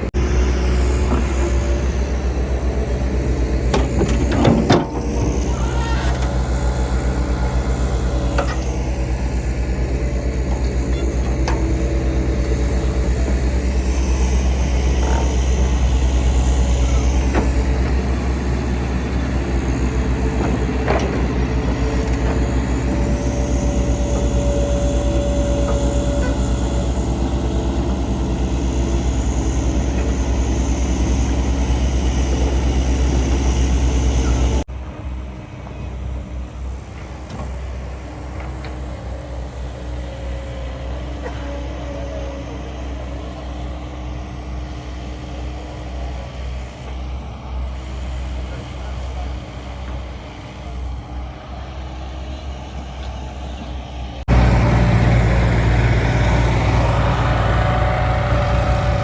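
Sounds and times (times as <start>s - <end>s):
heavy diesel engine throbbing: 0.0s - 59.0s.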